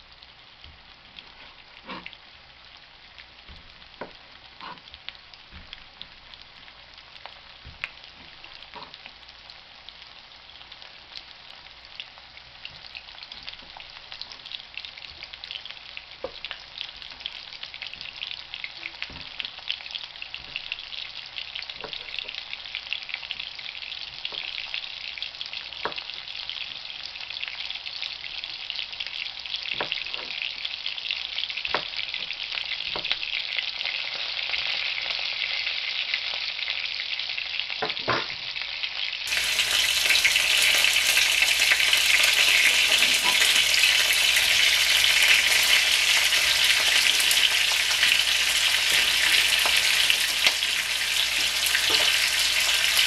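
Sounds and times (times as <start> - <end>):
sausage sizzling in oil: 0.0 - 53.0.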